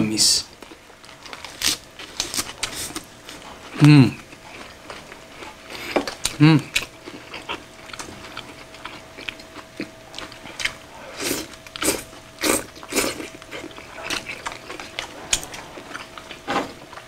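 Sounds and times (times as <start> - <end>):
wet chewing: 0.6 - 17.0.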